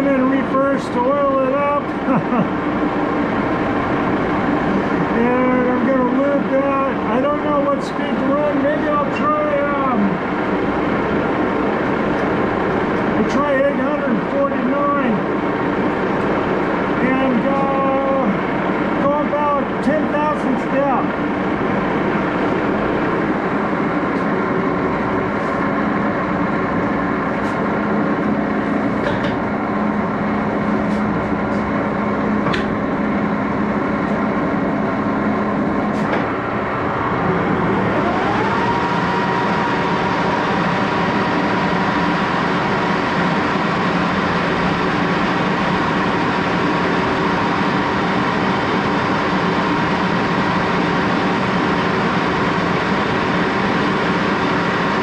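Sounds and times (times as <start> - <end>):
lathe gear train humming: 0.0 - 55.0
lathe whine: 0.0 - 55.0.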